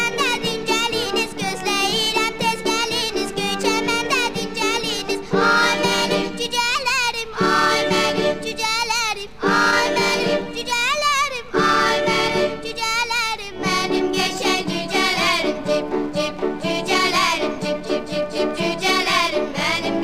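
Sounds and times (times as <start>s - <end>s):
person singing with instrumental backing: 0.0s - 20.0s.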